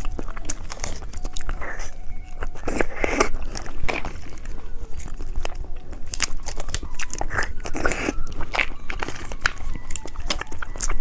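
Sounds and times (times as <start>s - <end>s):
crunching and chewing candy: 0.0s - 11.0s.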